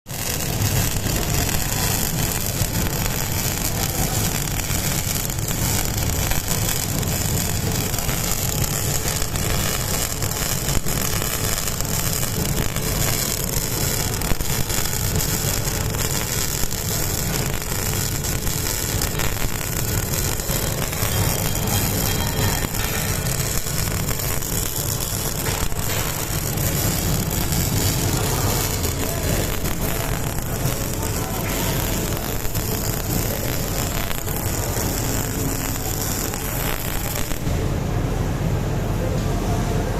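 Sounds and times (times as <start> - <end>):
welding equipment rumble and hiss: 0.0 - 39.9.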